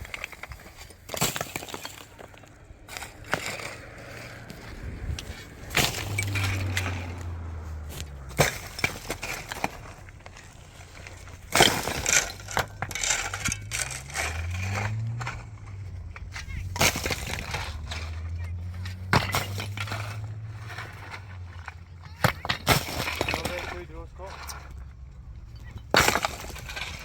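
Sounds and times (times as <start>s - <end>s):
tractor engine revving: 2.0s - 27.0s.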